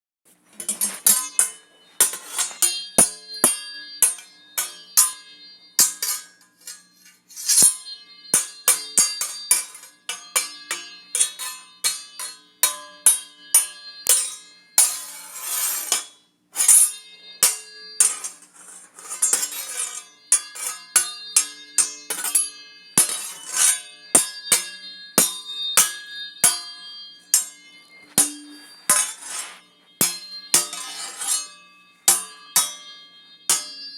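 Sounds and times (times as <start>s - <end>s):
steel blades clashing: 0.6s - 33.9s.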